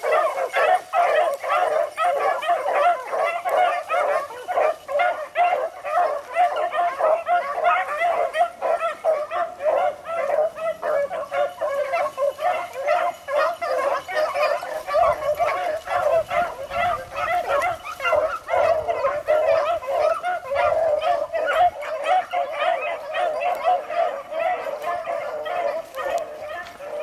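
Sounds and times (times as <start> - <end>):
dogs baying: 0.0 - 27.0.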